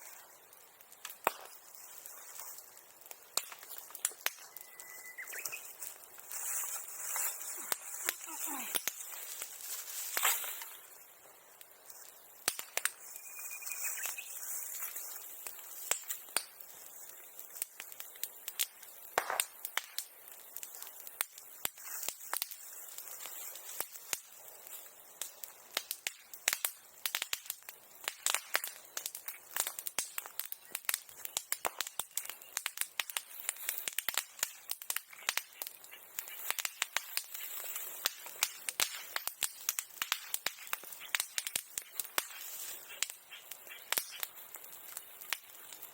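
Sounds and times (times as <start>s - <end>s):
bonfire crackling and popping: 0.0s - 45.9s.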